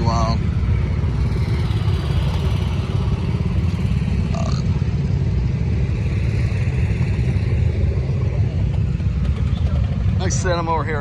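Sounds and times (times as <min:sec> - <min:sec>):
engine running rumble: 0:00.0 - 0:11.0.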